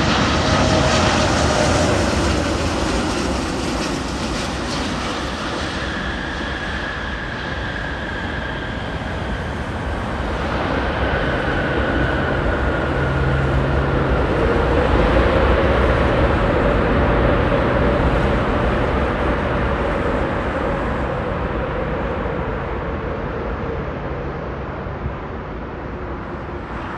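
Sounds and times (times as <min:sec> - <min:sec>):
jet engines roaring on takeoff roll: 0:00.0 - 0:26.9.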